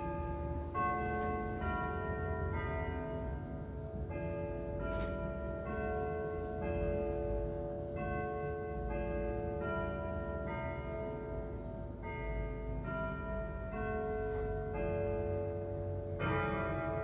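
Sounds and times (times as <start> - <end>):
floor clock chiming melody: 0.0 - 17.0.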